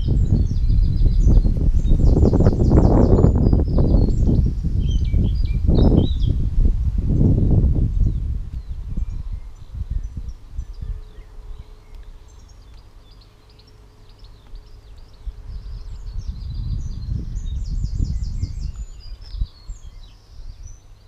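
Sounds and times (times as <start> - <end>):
birds chirping and calling: 0.0 - 6.5, 7.9 - 21.0.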